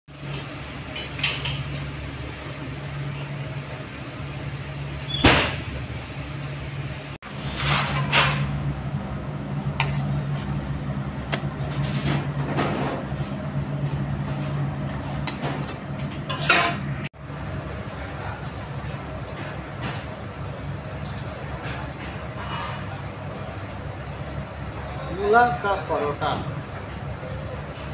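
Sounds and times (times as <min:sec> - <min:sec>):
low mechanical hum: 0:00.1 - 0:27.9.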